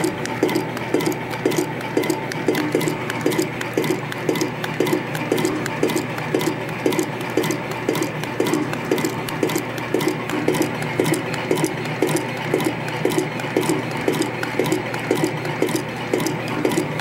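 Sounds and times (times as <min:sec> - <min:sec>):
clattering clicks of coiling machine: 0:00.0 - 0:17.0
machine hum: 0:00.0 - 0:17.0.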